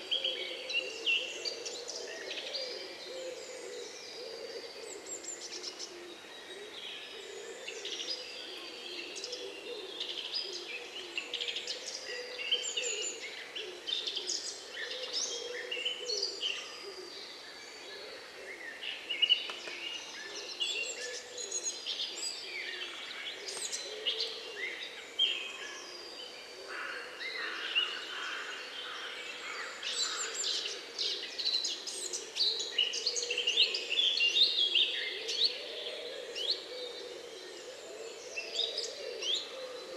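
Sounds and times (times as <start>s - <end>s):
wild birds chirping and trilling: 0.0s - 39.9s.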